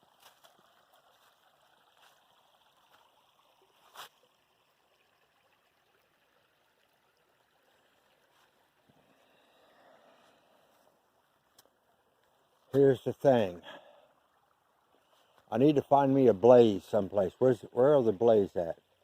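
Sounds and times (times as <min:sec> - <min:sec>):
small creek trickling: 0:00.0 - 0:19.0.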